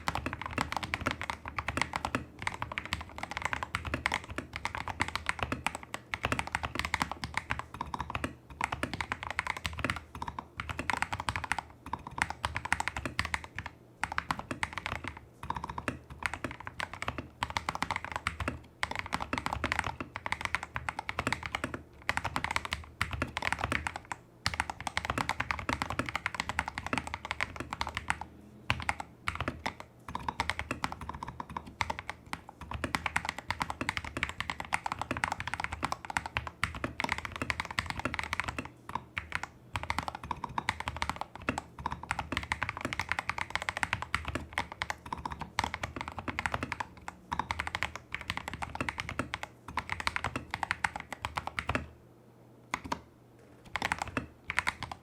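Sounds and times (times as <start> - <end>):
mechanical keyboard typing: 0.0 - 51.9, 52.7 - 55.0.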